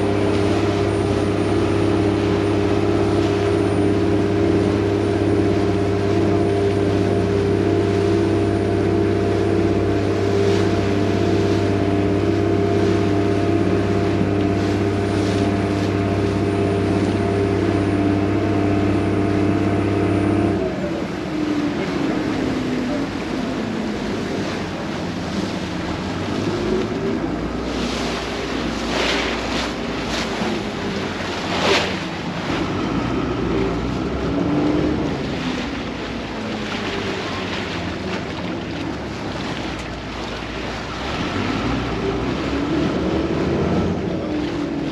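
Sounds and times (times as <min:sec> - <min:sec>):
boat engine droning: 0:00.0 - 0:44.9
water splashing: 0:00.0 - 0:44.9.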